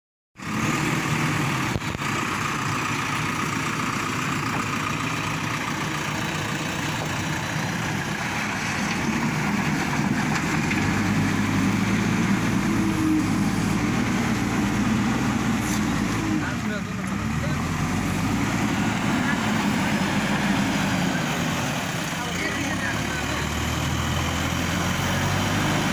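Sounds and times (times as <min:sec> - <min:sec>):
heavy diesel engine running: 0:00.4 - 0:25.9.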